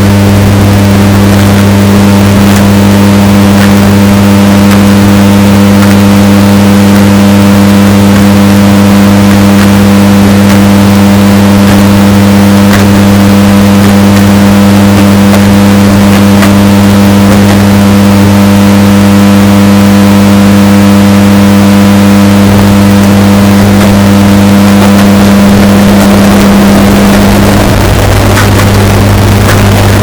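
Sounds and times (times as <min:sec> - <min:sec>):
distorted washing machine hum: 0:00.0 - 0:30.0.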